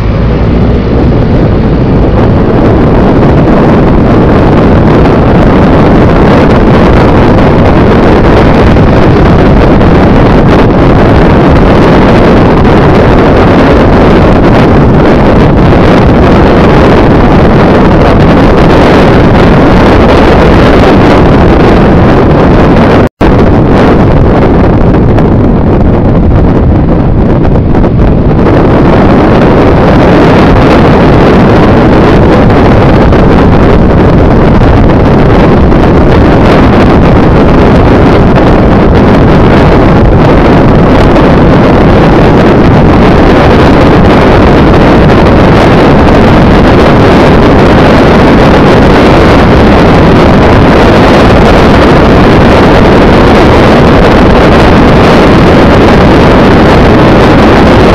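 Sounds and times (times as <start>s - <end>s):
moving vehicle rumbling: 0.0s - 57.9s
wind buffeting microphone: 0.0s - 57.9s.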